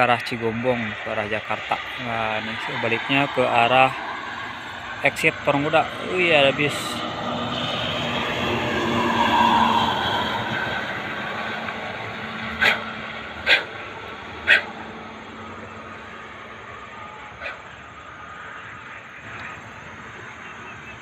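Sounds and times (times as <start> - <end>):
bus passing: 0.0 - 21.0.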